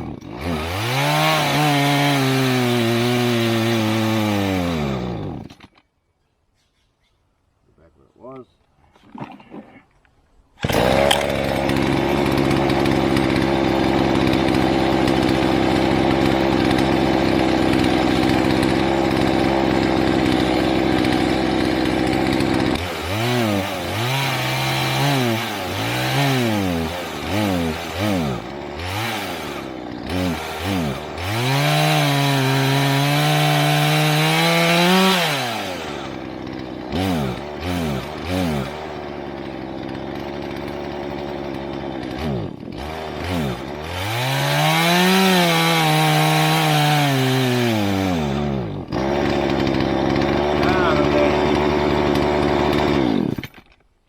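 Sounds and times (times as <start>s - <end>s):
chainsaw engine revving: 0.0s - 5.8s, 10.6s - 53.8s.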